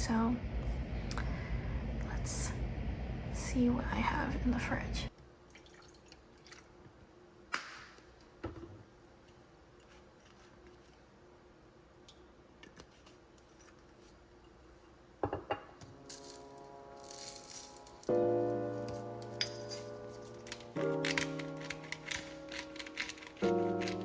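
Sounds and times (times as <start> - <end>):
faint steady hum: 0.0 - 19.5.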